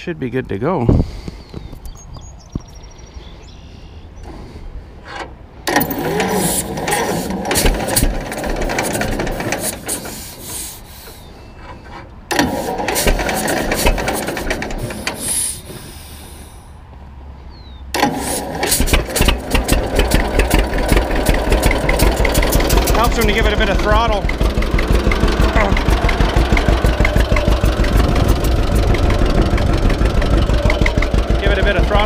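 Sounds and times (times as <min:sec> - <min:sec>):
engine cranking by starter: 0:04.2 - 0:16.7, 0:17.9 - 0:32.0.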